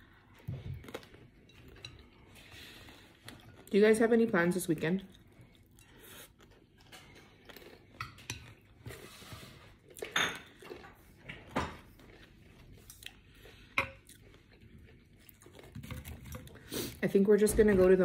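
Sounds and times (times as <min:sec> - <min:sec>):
chewing: 0:00.0 - 0:03.8, 0:05.0 - 0:17.0.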